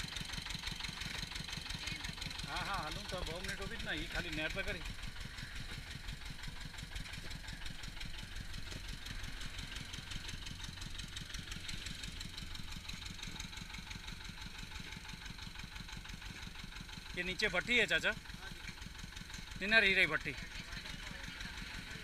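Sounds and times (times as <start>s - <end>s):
engine thumping steadily: 0.0s - 22.0s.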